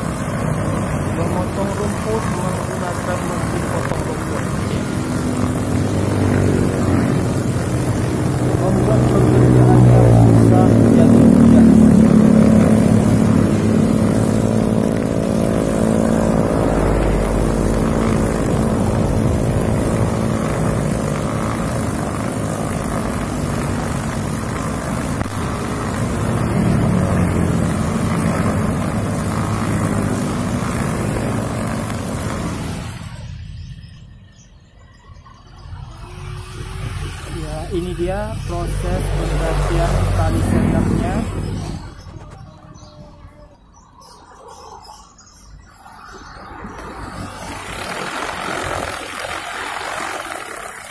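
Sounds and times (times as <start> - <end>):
brush cutter engine at high revs: 0.0 - 33.3, 36.6 - 42.4, 46.8 - 50.9
nylon line cutting grass: 0.0 - 33.4, 36.6 - 42.4, 46.6 - 50.9.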